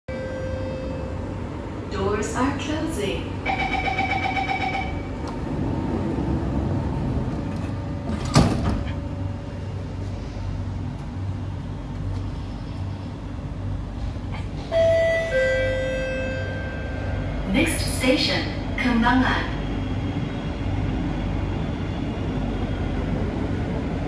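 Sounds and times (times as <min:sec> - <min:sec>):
train rumbling: 0:00.1 - 0:24.0.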